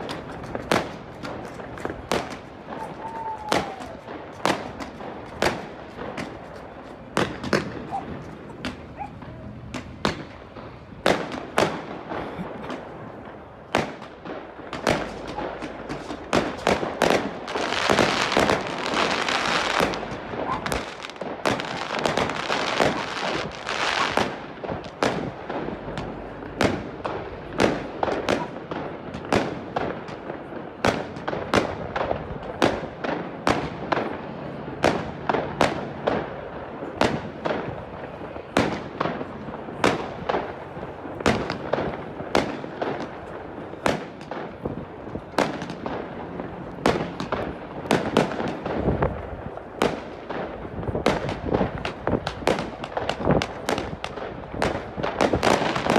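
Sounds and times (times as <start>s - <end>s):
firecrackers crackling: 0.0s - 55.9s
fireworks bangs: 0.0s - 55.9s.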